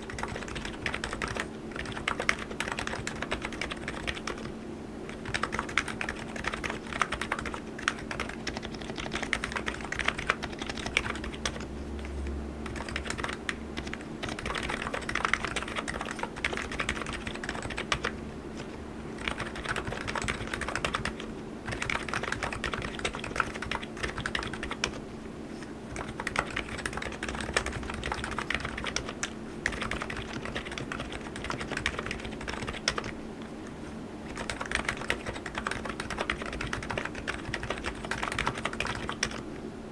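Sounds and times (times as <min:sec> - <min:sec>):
fast keyboard typing: 0:00.0 - 0:25.0, 0:25.9 - 0:33.2, 0:34.2 - 0:39.5
faint steady hum: 0:00.0 - 0:39.9.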